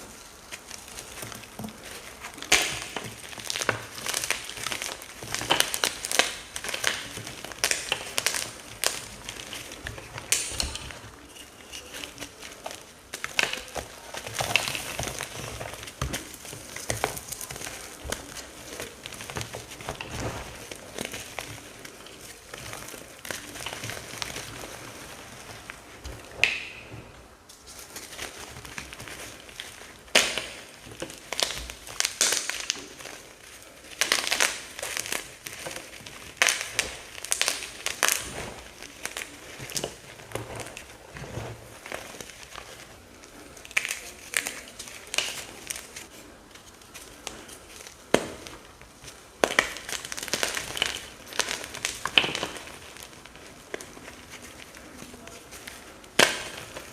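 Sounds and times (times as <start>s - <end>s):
dry paste chunks crunching: 0.0s - 56.9s.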